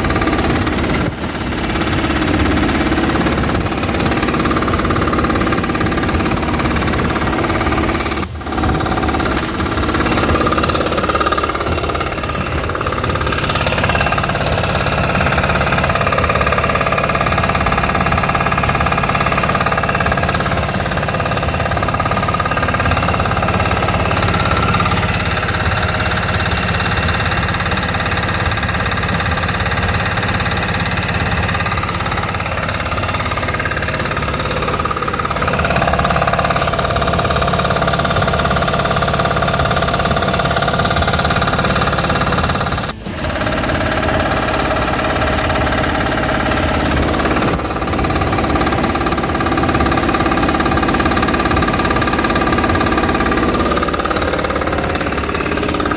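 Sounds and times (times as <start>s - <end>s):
engine knocking clatter: 0.0s - 55.9s
mechanical whining: 0.0s - 55.9s.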